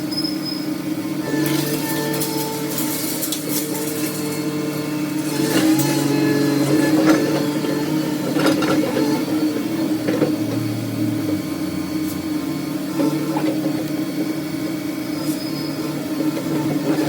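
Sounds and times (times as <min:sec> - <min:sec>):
heavy machinery engine running: 0:01.1 - 0:17.0.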